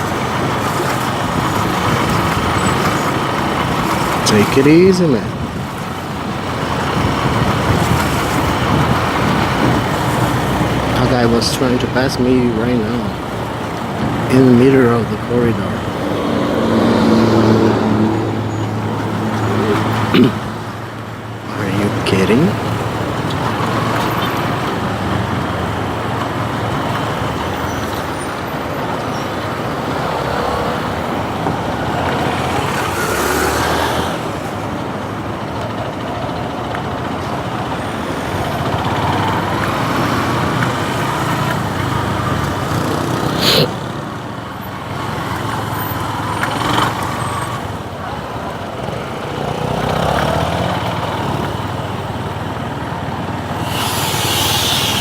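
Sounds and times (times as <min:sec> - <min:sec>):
road and wind noise: 0:00.0 - 0:55.0
vehicles passing close by: 0:00.0 - 0:55.0.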